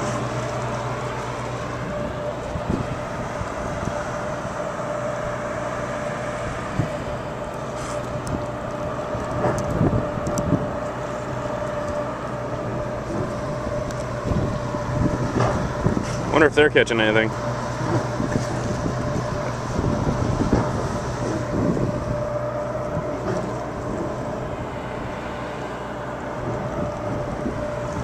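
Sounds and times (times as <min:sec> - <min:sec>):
boat engine whining: 0:00.0 - 0:28.0
water noise: 0:00.0 - 0:28.0
wind: 0:00.0 - 0:28.0.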